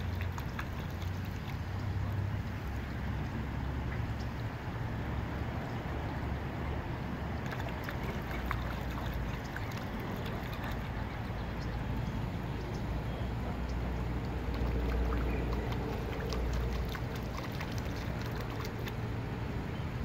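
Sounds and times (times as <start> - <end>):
ducks splashing water: 0.0 - 5.6, 7.1 - 19.7
water wash: 0.0 - 20.0.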